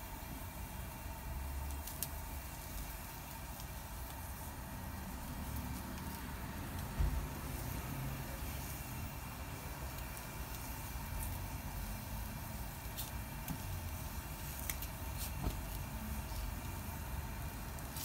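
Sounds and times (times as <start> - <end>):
gas grill burners rushing: 0.0 - 18.0.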